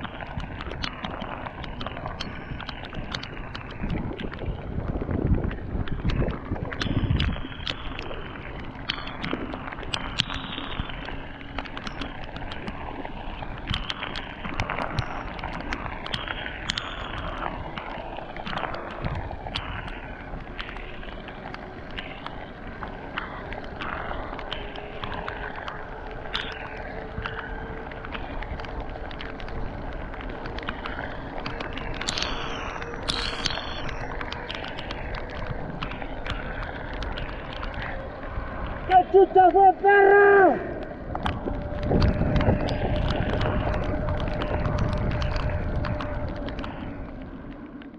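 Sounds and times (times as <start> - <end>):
small irregular clicks and taps: 0.0 - 39.6, 40.6 - 47.9
bike tyres hissing on wet road: 0.0 - 47.9
wind rushing over microphone: 0.0 - 47.9.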